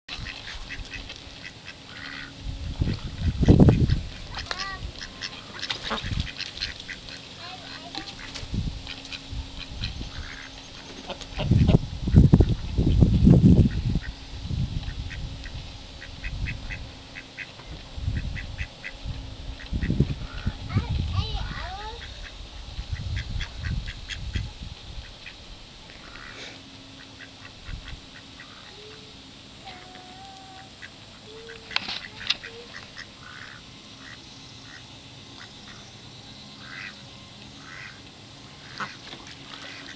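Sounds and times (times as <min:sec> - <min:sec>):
ducks quacking: 0:00.1 - 0:14.2, 0:14.9 - 0:35.9, 0:36.6 - 0:39.9.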